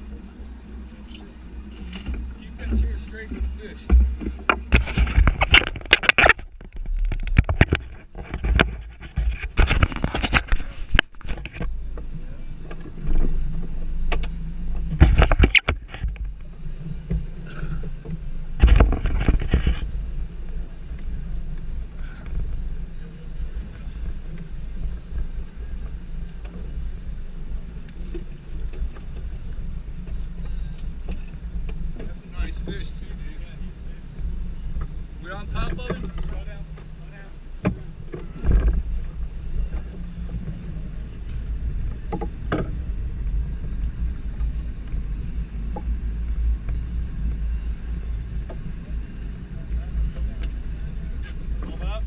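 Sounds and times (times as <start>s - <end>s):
motorboat engine rumbling: 0.0s - 52.0s.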